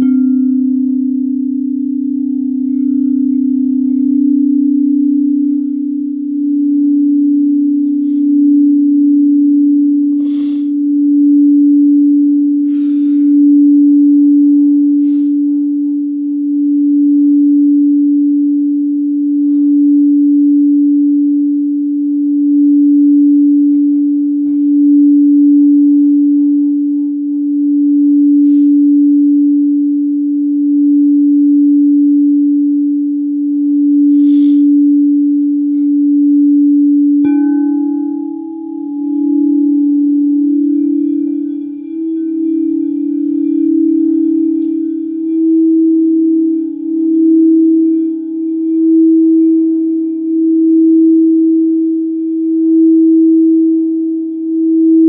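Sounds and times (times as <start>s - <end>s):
singing bowl ringing: 0.0s - 55.0s.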